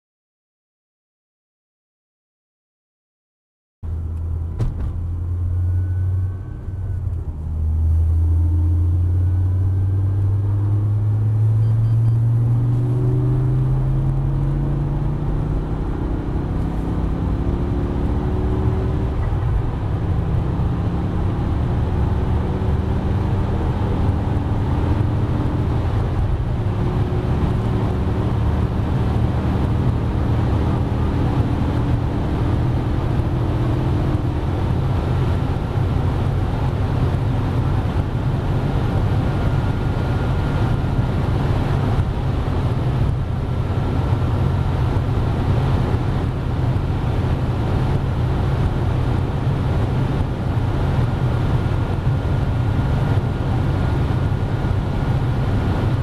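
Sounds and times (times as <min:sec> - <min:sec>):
car engine accelerating: 0:03.8 - 0:56.0
road and wind noise: 0:03.8 - 0:56.0.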